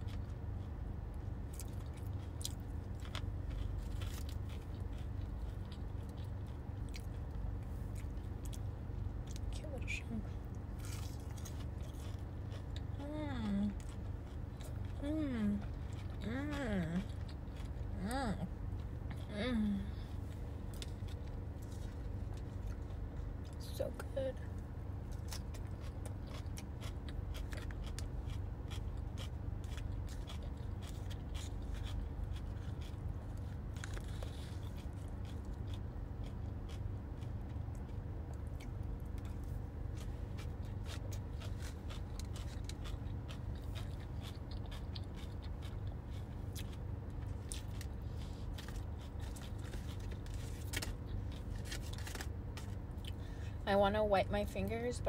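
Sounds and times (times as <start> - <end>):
chewing and crunching: 0.0 - 53.6
steady low hum: 0.0 - 55.0.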